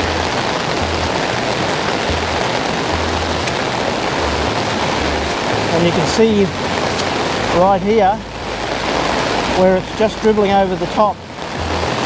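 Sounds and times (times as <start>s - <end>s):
floodwater rushing: 0.0s - 12.0s
rain falling: 0.0s - 12.0s.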